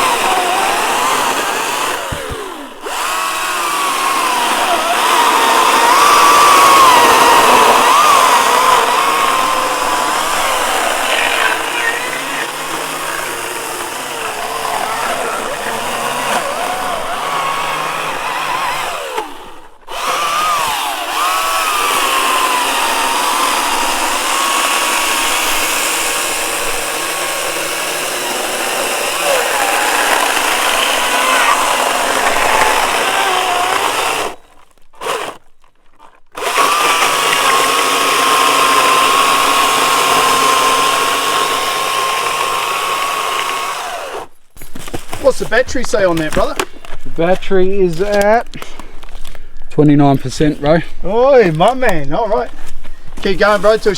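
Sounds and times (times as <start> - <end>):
battery chainsaw cutting wood: 0.0 - 53.9.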